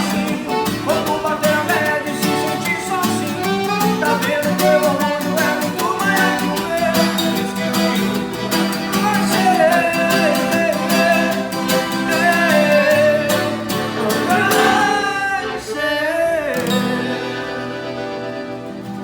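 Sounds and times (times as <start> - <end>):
man singing long notes: 0.0 - 8.2, 8.9 - 17.8
guitar: 0.0 - 19.0.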